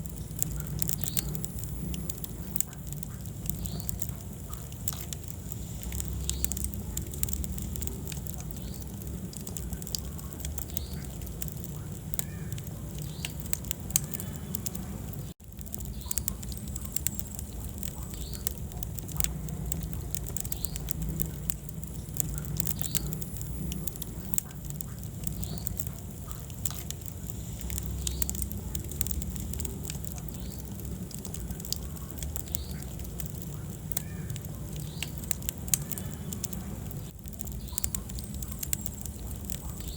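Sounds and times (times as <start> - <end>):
fire crackles and pops: 0.0 - 39.9
fire rumbling in fireplace: 0.0 - 39.9.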